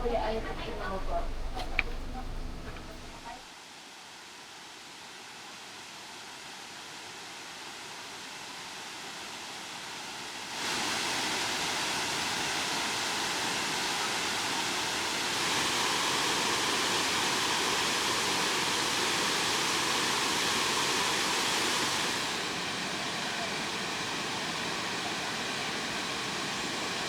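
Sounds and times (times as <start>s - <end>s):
waterfall rushing: 5.0s - 27.0s.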